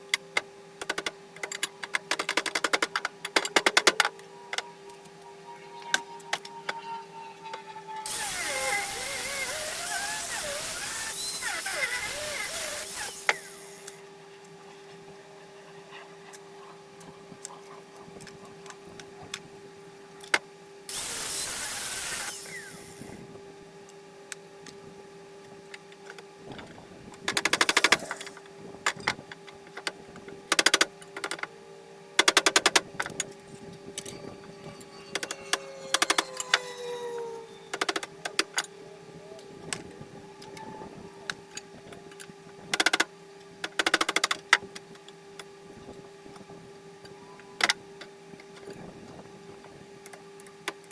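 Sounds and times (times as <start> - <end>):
steady hum: 0.0 - 43.8.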